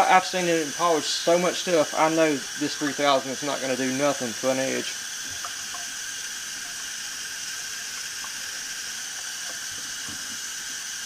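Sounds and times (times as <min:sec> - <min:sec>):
faucet water running into metal sink: 0:00.0 - 0:11.0.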